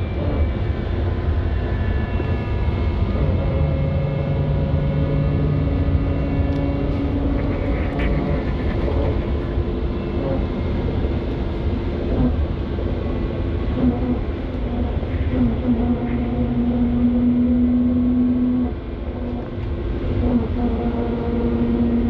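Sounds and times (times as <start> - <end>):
electric motor whine: 0.0 - 22.0
road rumble: 0.0 - 22.0.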